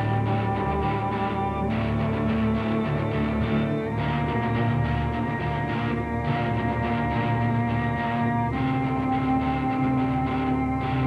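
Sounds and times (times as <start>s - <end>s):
held chord music: 0.0s - 11.0s
low repeating pulse: 0.0s - 11.0s.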